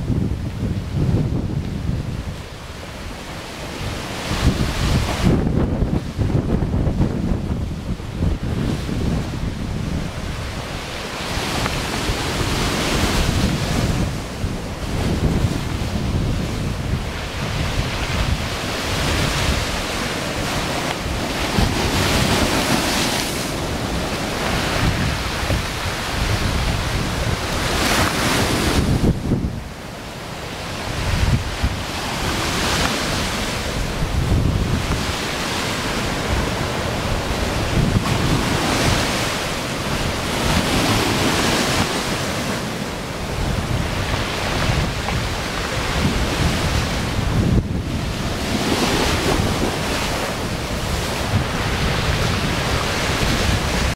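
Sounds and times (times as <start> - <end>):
gusting wind on microphone: 0.0 - 53.9
storm surf breaking: 0.0 - 53.9.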